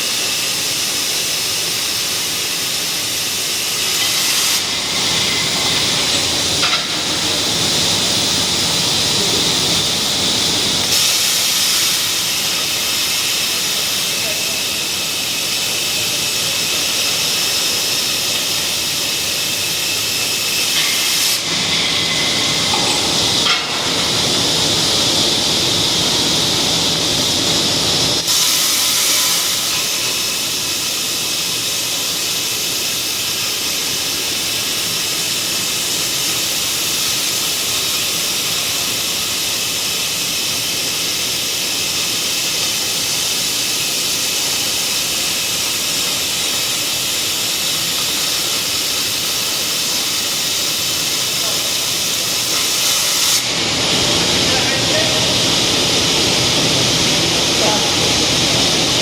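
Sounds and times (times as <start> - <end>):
cutting torch hissing: 0.0 - 59.0.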